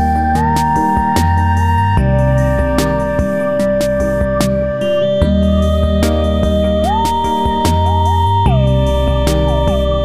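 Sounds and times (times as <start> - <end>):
gliding synthesizer lead: 0.0 - 10.0
sustained bass: 0.0 - 10.0.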